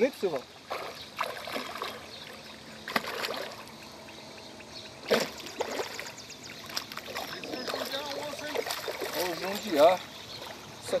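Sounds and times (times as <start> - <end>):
fish splashing in water: 0.6 - 3.8, 5.0 - 10.7.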